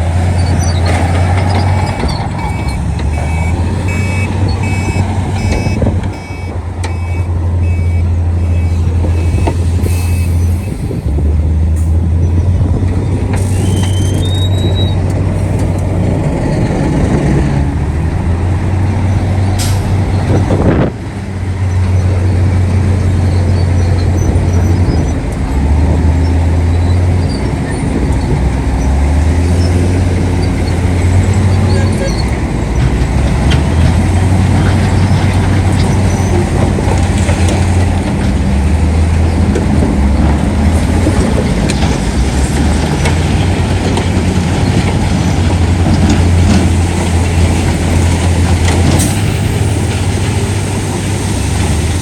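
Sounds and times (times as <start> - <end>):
heavy diesel machinery engines: 0.0 - 52.0.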